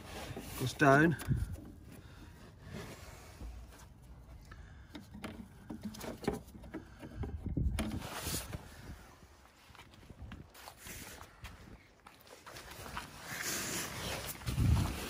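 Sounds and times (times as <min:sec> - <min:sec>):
hand rustling along rubber hoses: 0:00.0 - 0:15.0.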